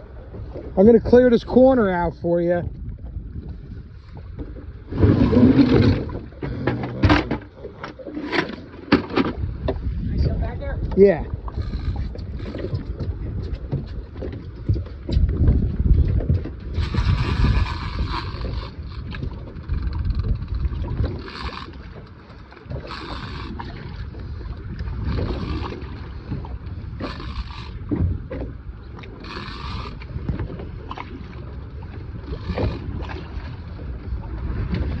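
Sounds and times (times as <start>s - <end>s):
wind buffeting microphone: 0.0s - 8.1s, 9.0s - 35.0s.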